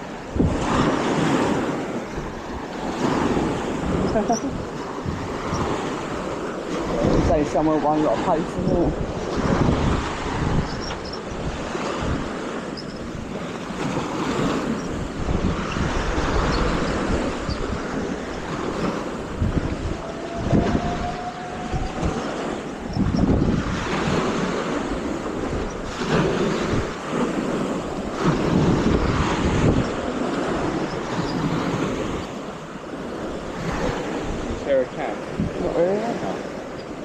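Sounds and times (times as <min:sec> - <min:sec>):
waves washing on beach: 0:00.0 - 0:37.0
wind buffeting microphone: 0:00.0 - 0:37.0.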